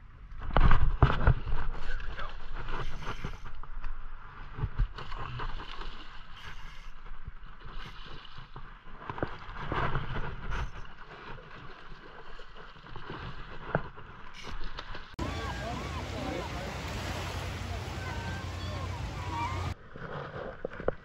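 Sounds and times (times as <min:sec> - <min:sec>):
wind rumbling on microphone: 0:00.0 - 0:21.0
water lapping against rocks: 0:00.4 - 0:21.0.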